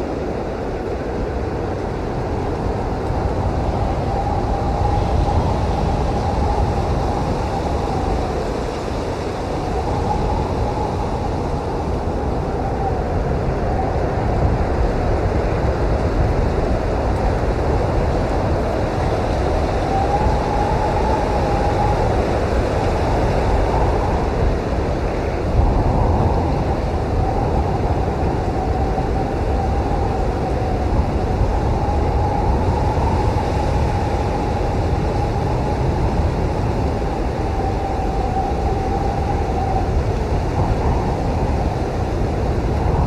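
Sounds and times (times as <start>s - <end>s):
blizzard wind rumbling: 0.0s - 43.0s
faint wind whistle: 0.0s - 43.0s.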